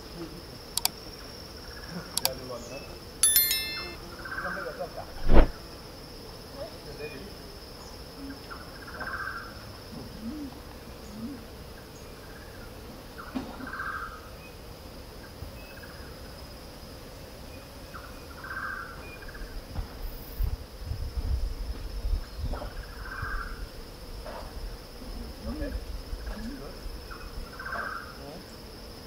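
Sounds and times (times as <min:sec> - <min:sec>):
high drone of insects: 0:00.0 - 0:29.0.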